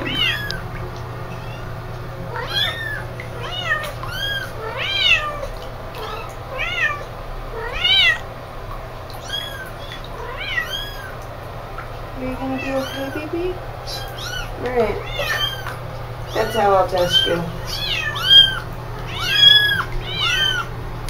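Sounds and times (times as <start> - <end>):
kittens meowing: 0.0 - 0.7, 1.3 - 8.2, 9.2 - 11.2, 12.5 - 20.7.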